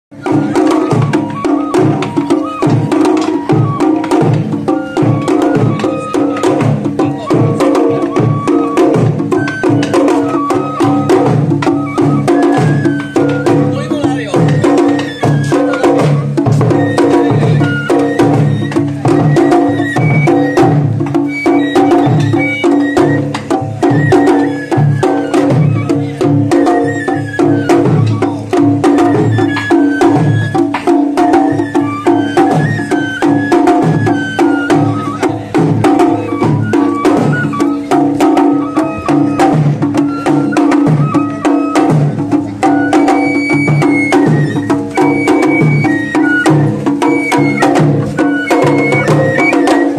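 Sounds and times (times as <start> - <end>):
bamboo flute melody: 0.1 - 49.9
small drums beaten rhythmically: 0.1 - 49.9.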